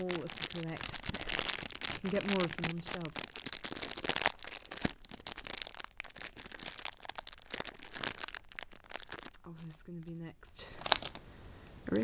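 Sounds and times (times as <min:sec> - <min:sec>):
foil bag crinkling: 0:00.0 - 0:11.2.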